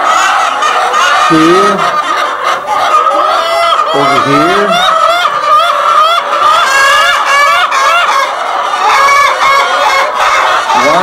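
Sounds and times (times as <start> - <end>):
hens squawking and cackling: 0.0 - 11.0.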